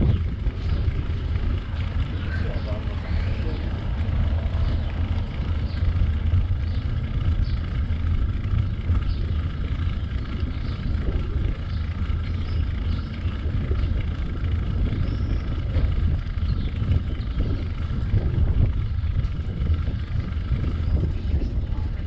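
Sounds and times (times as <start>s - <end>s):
road noise: 0.0s - 22.0s
wind buffeting microphone: 0.0s - 22.0s.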